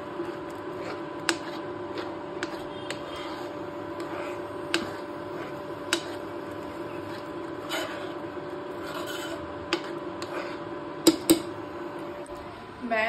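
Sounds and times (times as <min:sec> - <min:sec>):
metal spoon scraping a pan: 0:00.2 - 0:11.5.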